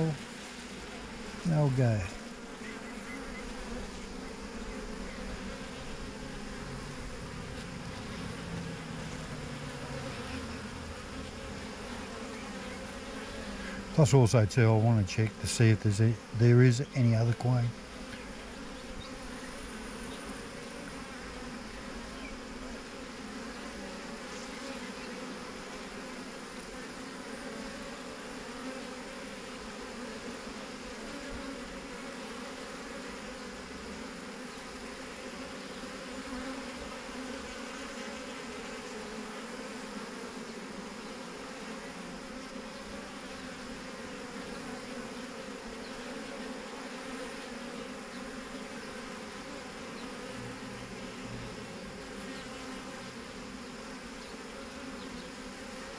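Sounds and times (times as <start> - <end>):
bee swarm buzzing: 0.0 - 55.9.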